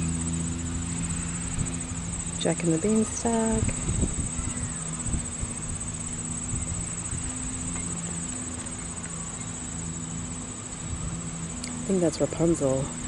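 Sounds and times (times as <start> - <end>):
insects chorus: 0.0 - 13.0
low steady hum: 0.0 - 13.0.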